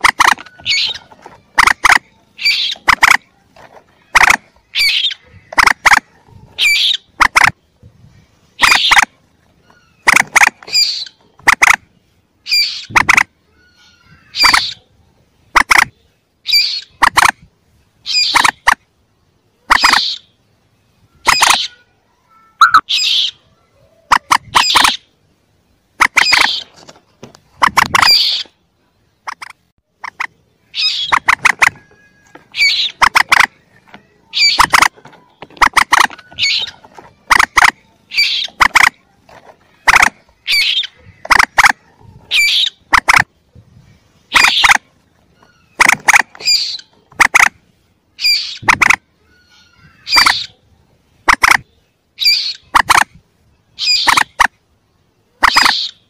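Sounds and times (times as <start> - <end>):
rail bird calls: 0.0 - 56.0.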